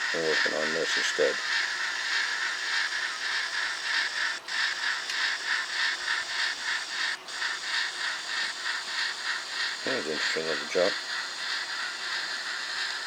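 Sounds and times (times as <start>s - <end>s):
model locomotive steam chuffing: 0.0s - 13.0s.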